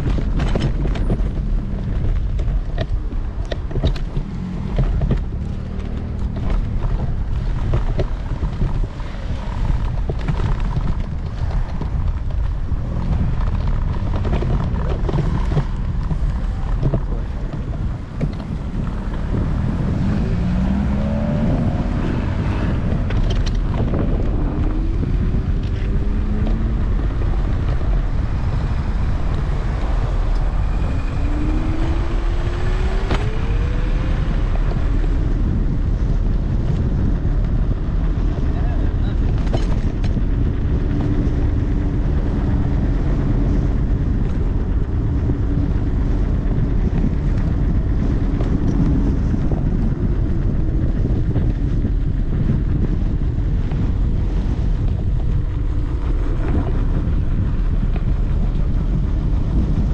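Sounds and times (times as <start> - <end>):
electric scooter low rumble: 0.0 - 59.9
wind buffeting microphone: 0.0 - 59.9.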